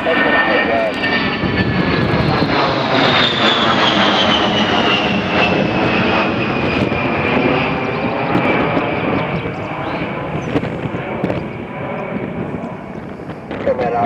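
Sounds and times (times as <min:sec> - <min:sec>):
jet engines whining: 0:00.0 - 0:14.0
jet roar: 0:00.0 - 0:14.0.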